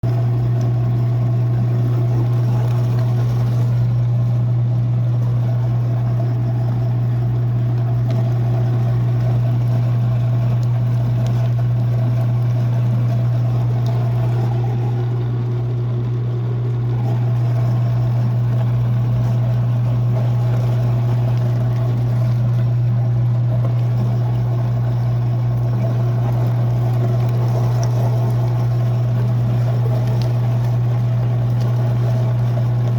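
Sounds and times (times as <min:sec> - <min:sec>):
meat grinder motor humming: 0:00.0 - 0:32.9.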